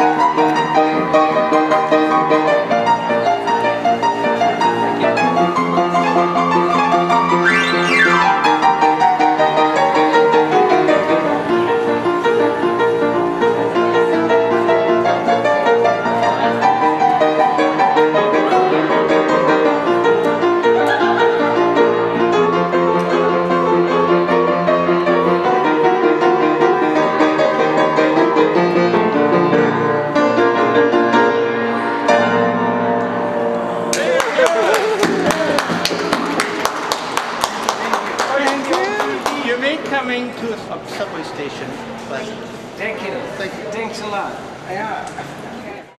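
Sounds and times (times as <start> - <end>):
boogie-woogie piano: 0.0 - 39.3.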